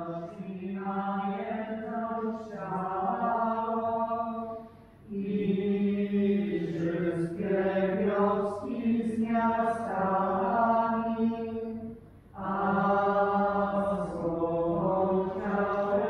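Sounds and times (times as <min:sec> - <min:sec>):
congregation chanting a sung prayer: 0:00.0 - 0:16.0.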